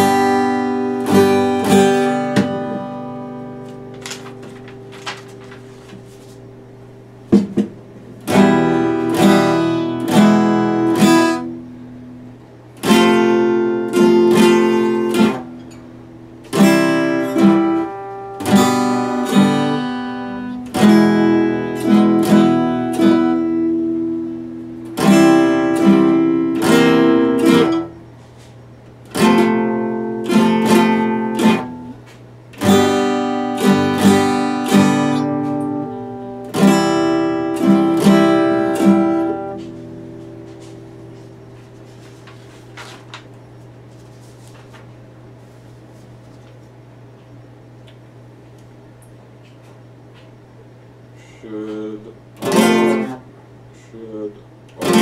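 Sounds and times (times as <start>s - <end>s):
acoustic guitar strummed chords: 0.0s - 43.6s, 51.2s - 54.0s, 54.7s - 55.0s.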